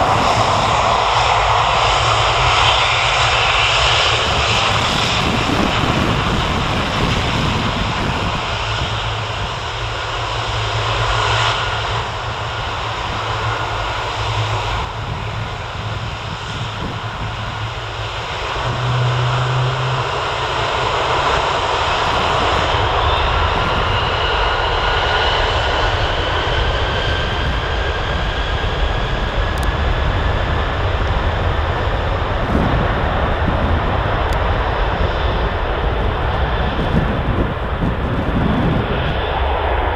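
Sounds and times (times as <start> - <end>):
jet engine whine rising: 0.0 - 39.9
jet engines roaring: 0.0 - 39.9.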